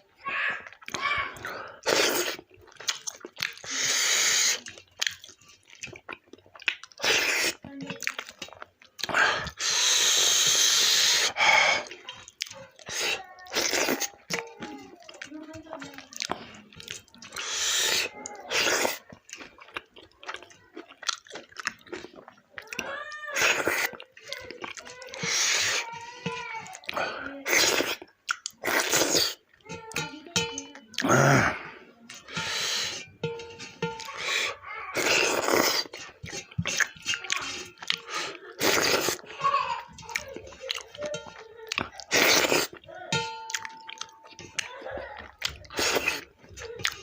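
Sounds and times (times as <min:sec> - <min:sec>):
wet chewing and smacking: 0:00.0 - 0:47.0.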